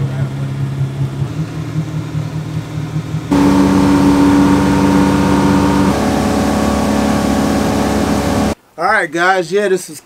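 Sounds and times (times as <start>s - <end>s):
boat engine running at speed: 0.0s - 8.6s.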